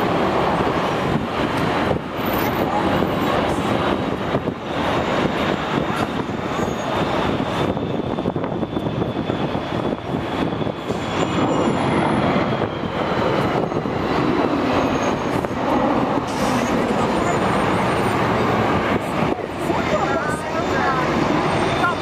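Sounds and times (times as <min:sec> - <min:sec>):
distant jet engines roaring: 0:00.0 - 0:22.0.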